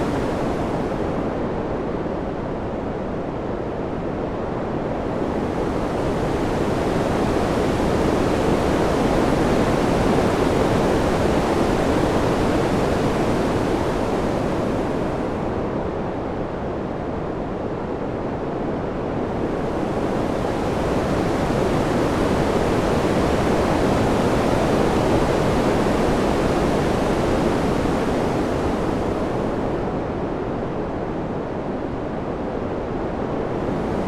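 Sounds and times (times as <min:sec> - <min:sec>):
rushing wind: 0:00.0 - 0:34.0.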